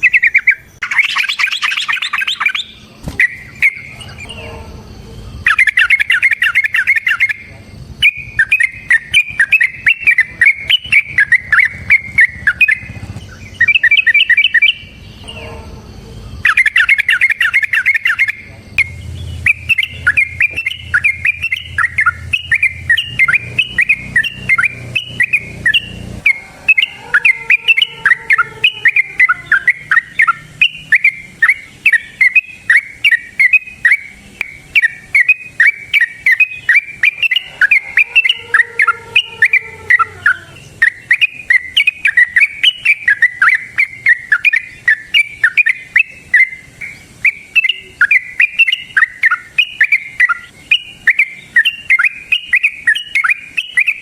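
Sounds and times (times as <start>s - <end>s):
bird singing rapid chirps: 0.0s - 54.0s.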